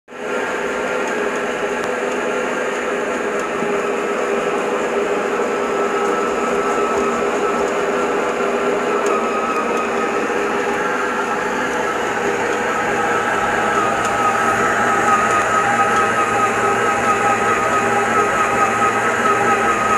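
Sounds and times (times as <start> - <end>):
stand mixer motor whining: 0.1 - 19.9.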